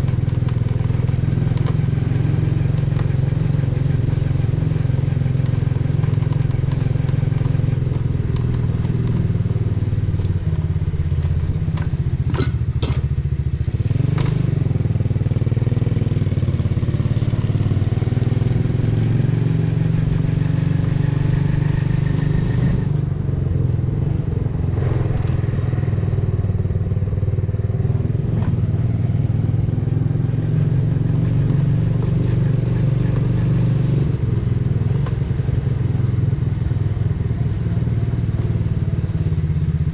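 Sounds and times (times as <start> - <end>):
motorcycle exhaust running: 0.0 - 39.9.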